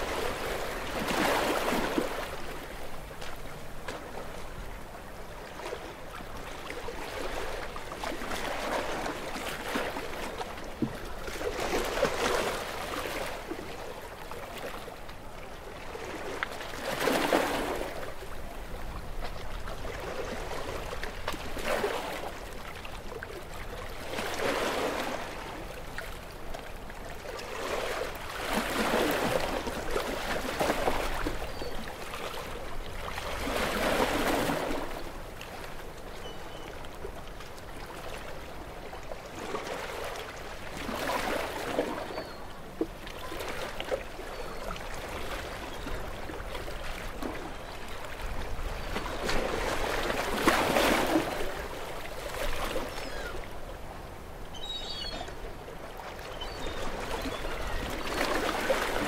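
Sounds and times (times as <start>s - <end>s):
small ocean waves lapping: 0.0s - 59.0s.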